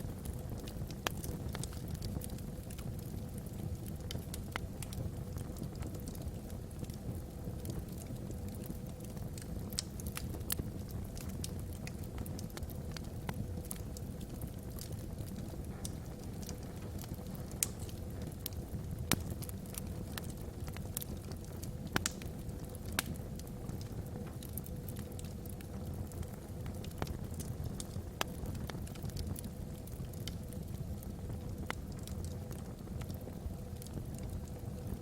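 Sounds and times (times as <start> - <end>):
fire rumbling: 0.0 - 35.0
wood crackling and popping: 0.0 - 35.0.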